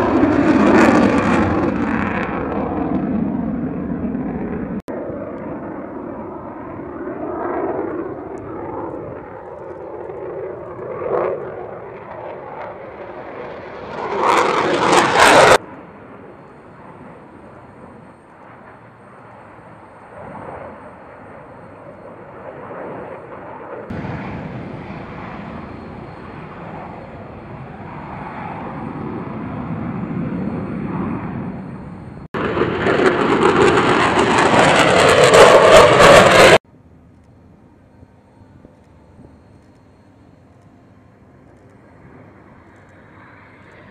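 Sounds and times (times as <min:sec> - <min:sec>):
jet flying overhead: 0:00.0 - 0:43.9.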